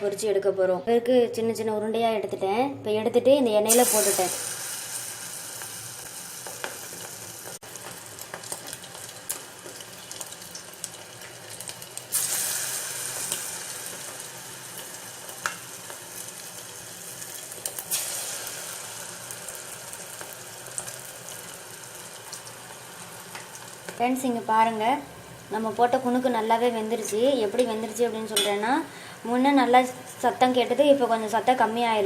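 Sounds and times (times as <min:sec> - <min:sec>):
batter deep-frying in hot oil: 0:03.7 - 0:32.0.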